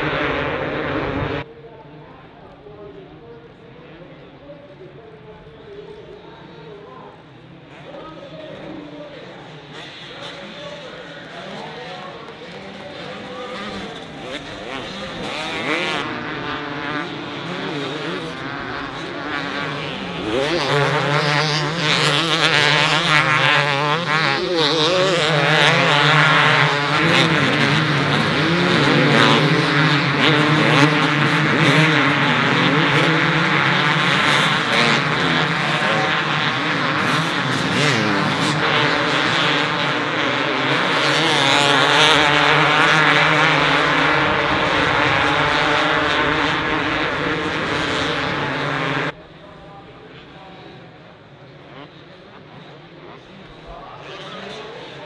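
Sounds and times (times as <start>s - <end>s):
motocross bikes revving: 0.0s - 1.5s, 6.4s - 49.2s.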